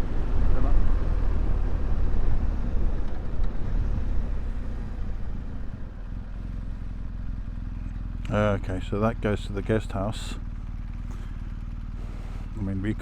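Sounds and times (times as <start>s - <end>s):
rush of riding noise: 0.0s - 13.0s
motorcycle engine running: 0.1s - 13.0s.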